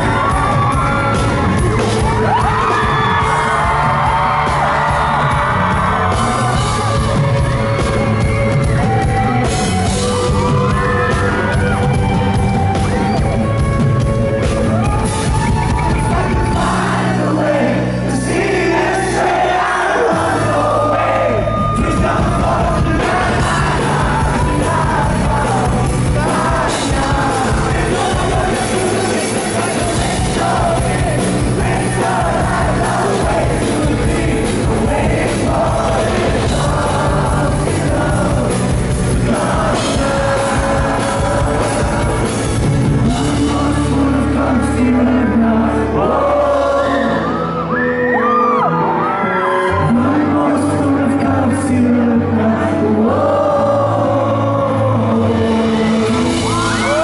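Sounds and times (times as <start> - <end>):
audience yelling: 0.0 - 13.4, 14.6 - 44.2, 46.0 - 51.0, 56.1 - 57.0
lead singer singing: 0.0 - 13.6, 15.2 - 57.0
drums: 0.0 - 49.0, 49.7 - 57.0
live pop-rock band: 0.0 - 57.0.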